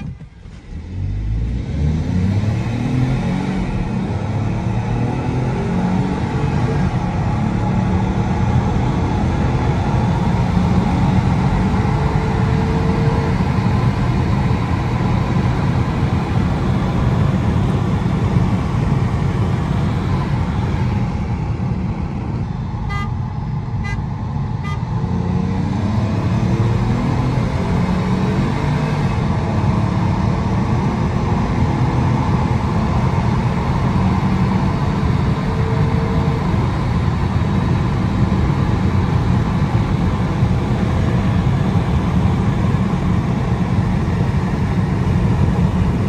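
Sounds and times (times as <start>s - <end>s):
car engine accelerating: 0.0s - 46.0s
road and wind noise: 0.0s - 46.0s.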